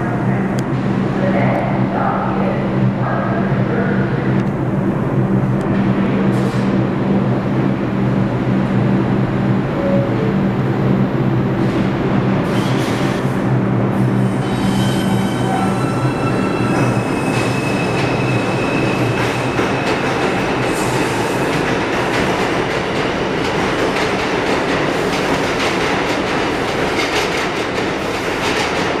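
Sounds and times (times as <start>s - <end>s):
train wheels rumbling on rails: 0.0s - 9.3s, 11.5s - 29.0s.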